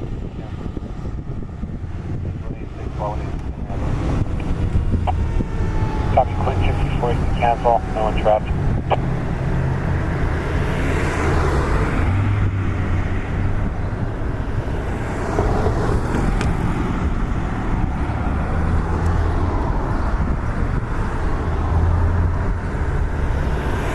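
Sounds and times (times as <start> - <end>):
vehicle engines rumbling: 0.0 - 23.9.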